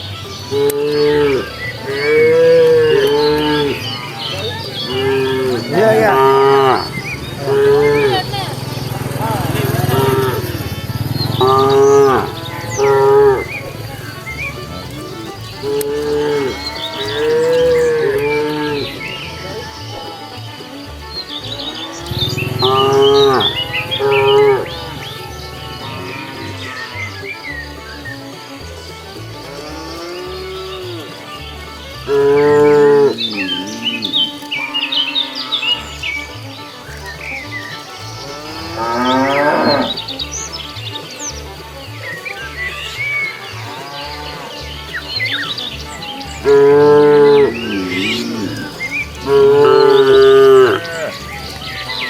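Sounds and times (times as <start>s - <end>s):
background music with low notes: 0.0s - 52.0s
cows mooing: 0.5s - 20.5s, 21.4s - 27.2s, 29.4s - 37.4s, 38.0s - 40.2s, 43.2s - 52.0s.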